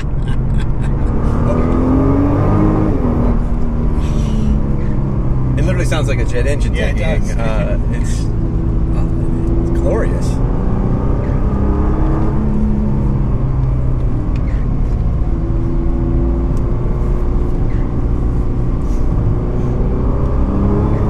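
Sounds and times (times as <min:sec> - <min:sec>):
car engine and turbo whine in cabin: 0:00.0 - 0:21.0.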